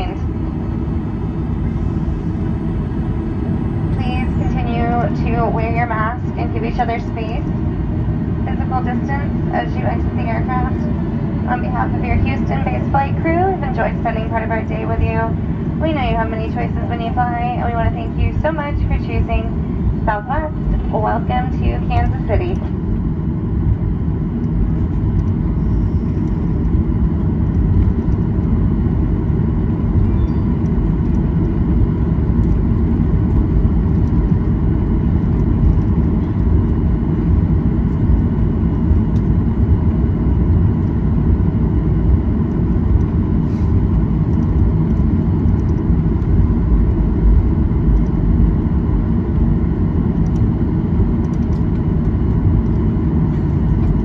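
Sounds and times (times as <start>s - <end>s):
airplane cabin rumble: 0.0s - 54.0s
faint jet engine whine: 0.0s - 54.0s.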